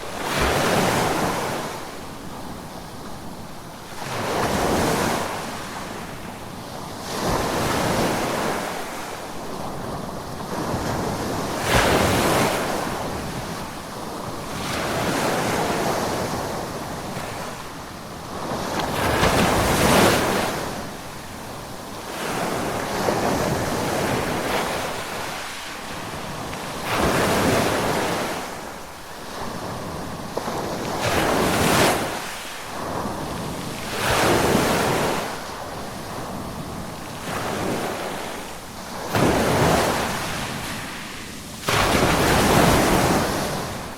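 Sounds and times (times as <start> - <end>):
ocean waves breaking on shore: 0.0 - 43.9
wind: 0.0 - 43.9.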